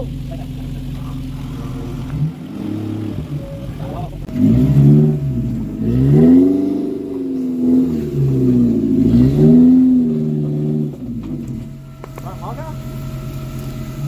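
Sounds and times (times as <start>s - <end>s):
engine revving hard: 0.0s - 14.0s.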